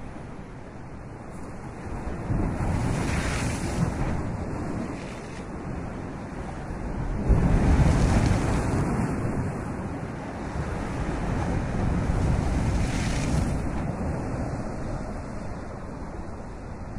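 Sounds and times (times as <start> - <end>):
breaking waves roaring: 0.0 - 16.9
wind: 0.0 - 16.9.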